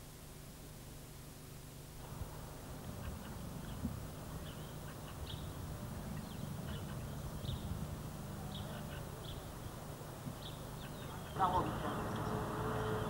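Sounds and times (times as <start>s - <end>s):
small birds chirping: 2.0s - 13.0s
steady low rumble: 2.0s - 13.0s.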